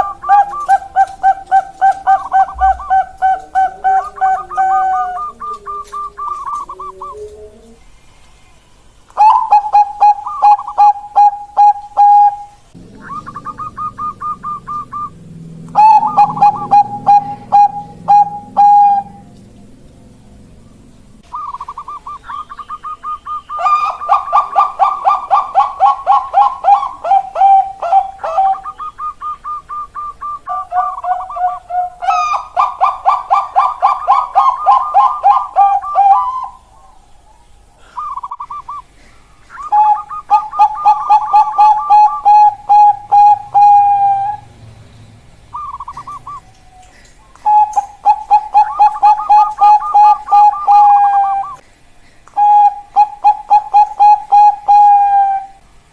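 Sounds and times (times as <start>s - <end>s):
dove cooing: 0.0s - 7.9s, 9.2s - 44.6s, 45.5s - 51.6s, 52.4s - 55.7s.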